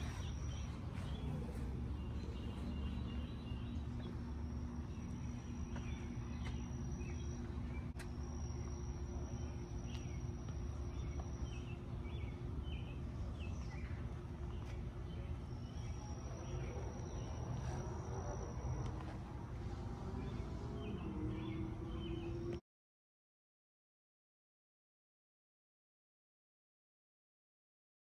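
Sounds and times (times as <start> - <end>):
birds chirping: 0.0 - 22.6
faint hum: 0.0 - 22.6.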